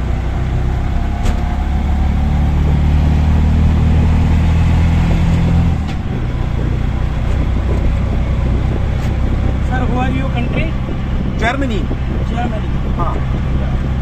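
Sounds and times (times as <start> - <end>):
auto rickshaw engine running: 0.0 - 14.0
road traffic noise: 0.0 - 14.0.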